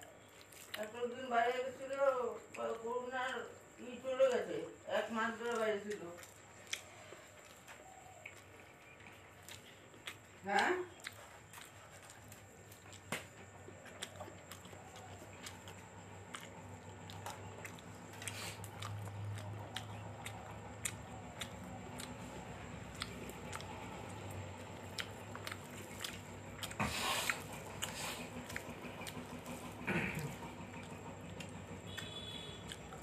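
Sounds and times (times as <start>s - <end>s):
person chewing food: 0.0s - 1.0s, 5.2s - 33.0s.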